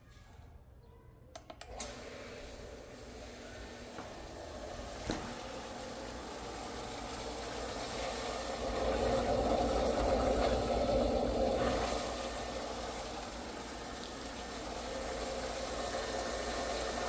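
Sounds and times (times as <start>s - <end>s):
water pump humming: 1.6s - 17.0s.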